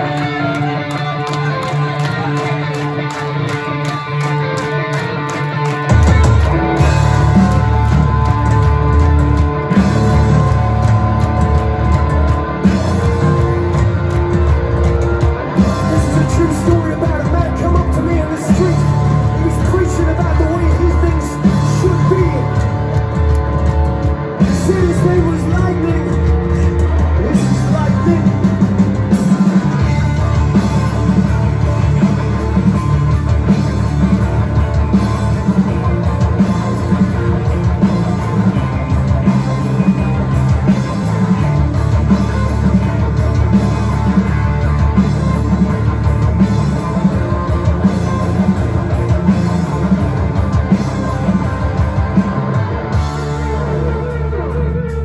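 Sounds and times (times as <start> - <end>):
bass guitar: 0.0 - 55.0
distorted electric guitars: 0.0 - 55.0
drum kit beat: 0.0 - 55.0.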